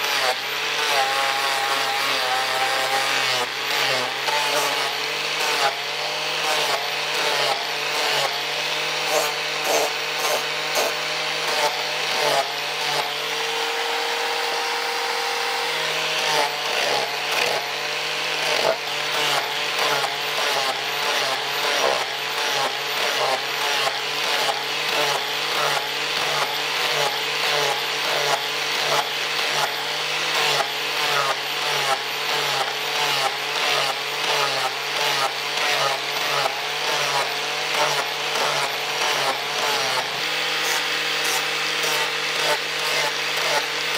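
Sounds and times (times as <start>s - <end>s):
angle grinder sanding wood: 0.0s - 43.9s.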